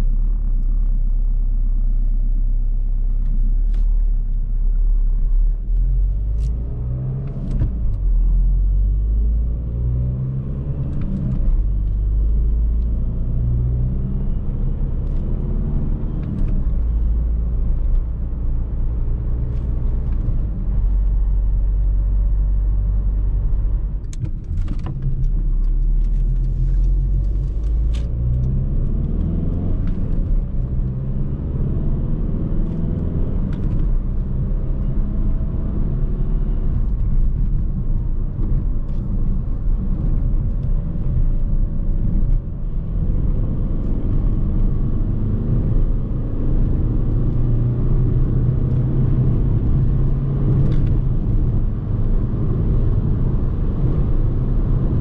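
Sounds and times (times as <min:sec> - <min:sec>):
diesel car engine under load: 0:00.0 - 0:55.0.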